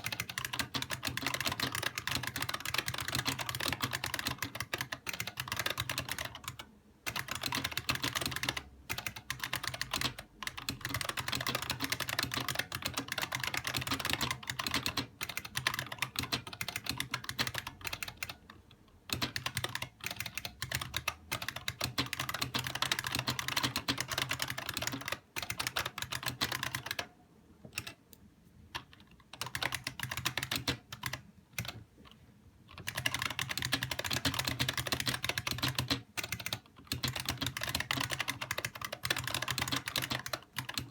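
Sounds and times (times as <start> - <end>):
clicky keyboard typing: 0.0 - 40.9.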